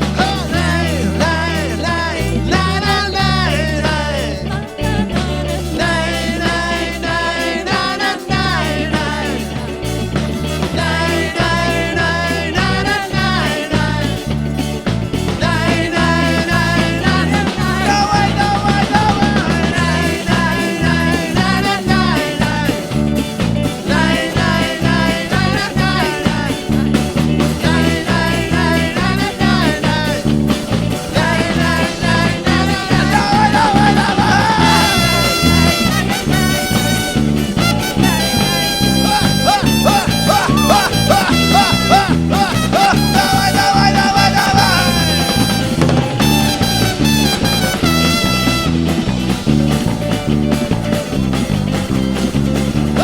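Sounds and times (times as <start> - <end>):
upbeat worship band music: 0.0 - 53.0.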